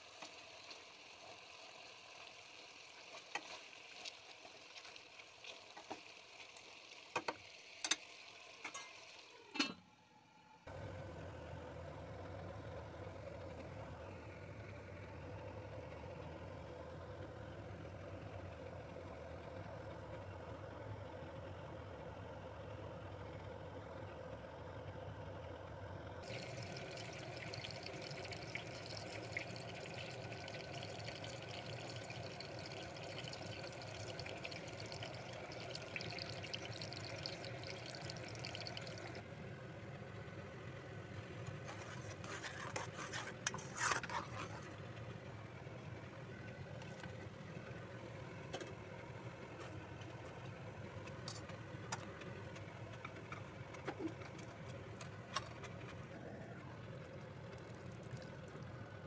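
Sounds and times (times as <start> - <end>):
low kitchen hum: 0.0 - 59.0.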